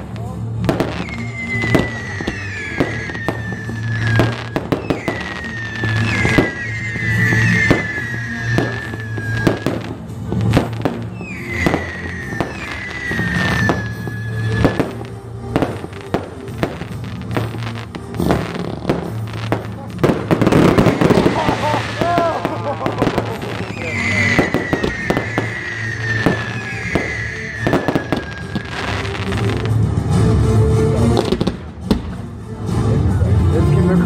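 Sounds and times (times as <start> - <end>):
fireworks bangs and crackles: 0.0 - 34.0
descending firework whistles: 0.7 - 29.8.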